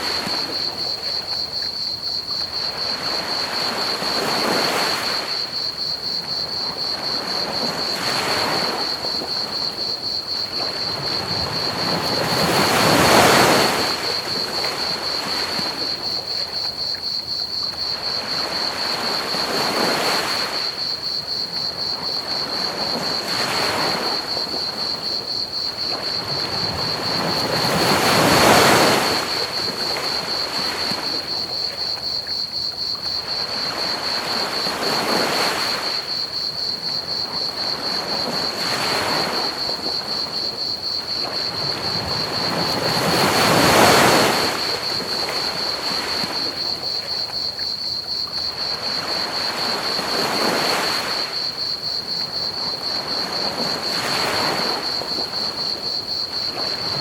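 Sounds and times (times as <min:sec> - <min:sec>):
high cricket trill: 0:00.0 - 0:57.0
ocean waves washing onto beach: 0:00.0 - 0:57.0.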